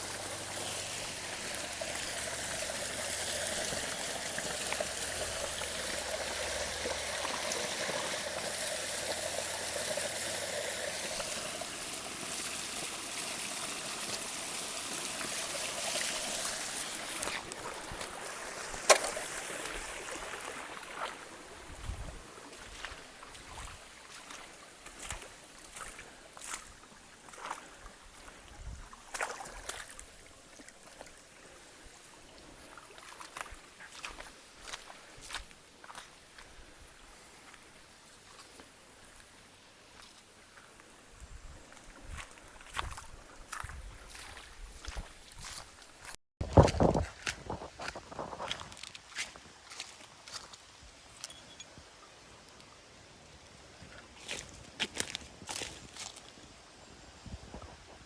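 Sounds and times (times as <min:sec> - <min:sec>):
stream trickling and gurgling: 0:00.0 - 0:58.0.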